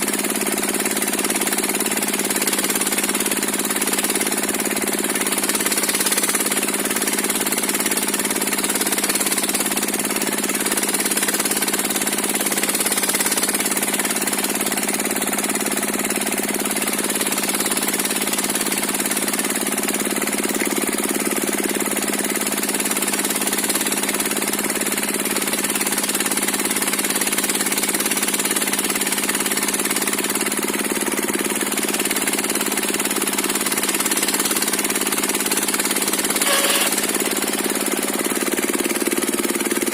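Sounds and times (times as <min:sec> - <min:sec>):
engine-driven circular saw running: 0:00.0 - 0:39.9.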